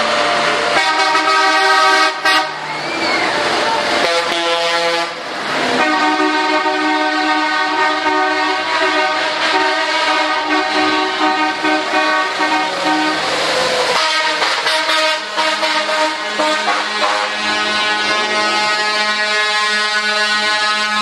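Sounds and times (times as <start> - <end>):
truck air horn blasts: 0.0 - 2.7, 3.9 - 13.3, 13.9 - 21.0.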